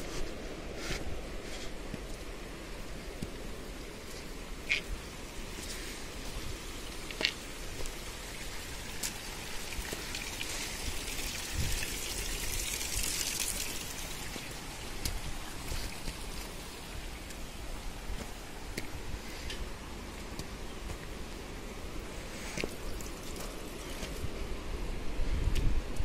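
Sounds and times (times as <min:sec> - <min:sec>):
footsteps on stony path: 0:00.0 - 0:10.8, 0:14.2 - 0:24.3
water trickling over stones: 0:01.6 - 0:24.4.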